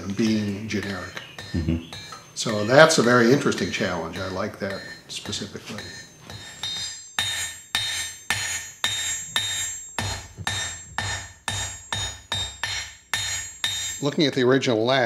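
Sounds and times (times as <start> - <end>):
hammer striking iron on anvil: 0.0 - 14.6.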